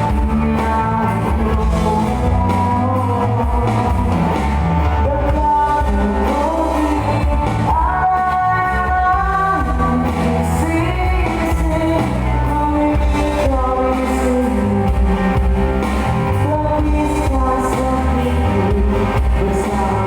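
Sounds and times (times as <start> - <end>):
live band music: 0.0 - 20.0
person singing: 0.0 - 20.0.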